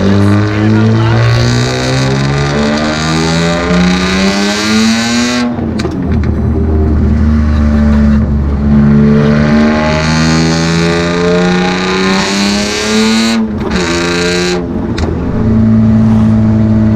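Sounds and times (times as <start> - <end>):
loud car exhaust accelerating: 0.0 - 16.9.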